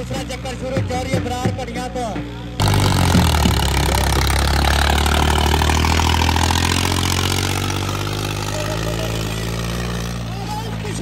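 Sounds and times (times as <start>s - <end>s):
harrow rattling: 0.0s - 11.0s
tractor diesel engine under load: 0.0s - 11.0s.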